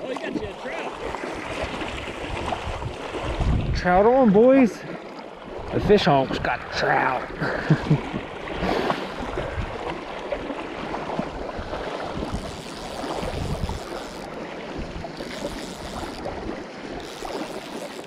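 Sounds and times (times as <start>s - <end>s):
river current rushing: 0.0s - 7.4s, 8.1s - 18.0s.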